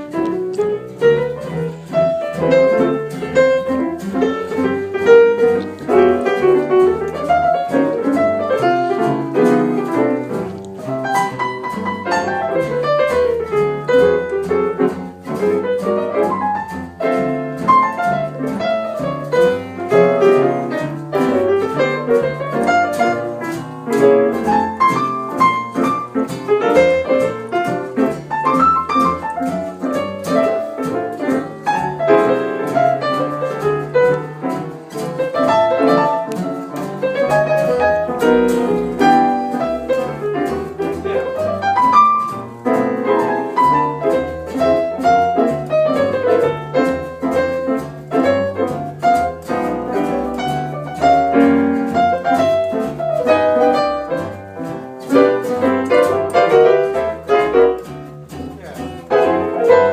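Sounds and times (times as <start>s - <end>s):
double bass: 0.0s - 59.9s
jazz piano playing: 0.0s - 59.9s.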